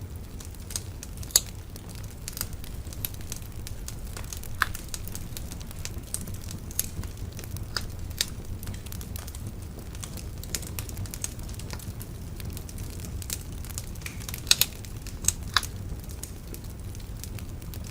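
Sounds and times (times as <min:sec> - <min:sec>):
bonfire crackling: 0:00.0 - 0:17.9.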